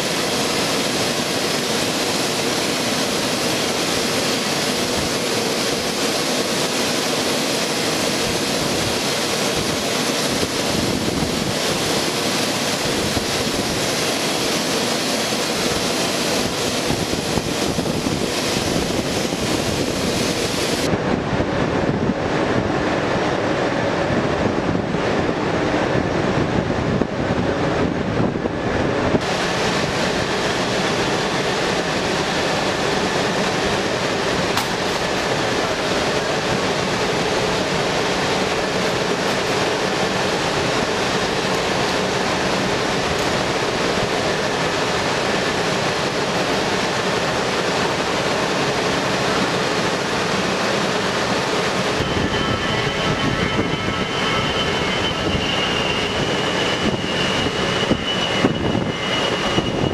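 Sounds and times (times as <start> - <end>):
high engine whine: 0.0 - 59.9
jet engines taxiing: 0.0 - 59.9.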